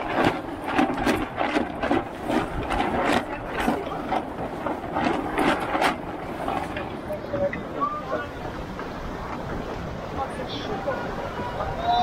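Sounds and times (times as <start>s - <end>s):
clicking and knocking aboard sailboat: 0.0s - 10.0s
rush of wind and water: 0.0s - 12.0s.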